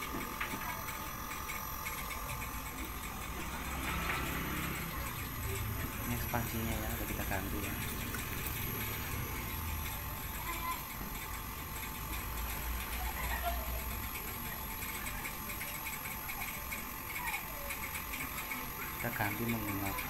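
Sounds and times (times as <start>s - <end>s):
air conditioner compressor humming: 0.0s - 20.0s.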